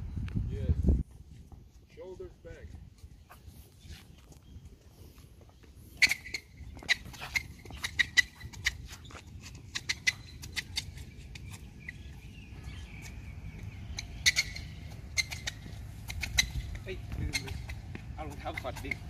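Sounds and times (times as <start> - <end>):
shoes squeaking on a hard court: 1.3 - 19.0.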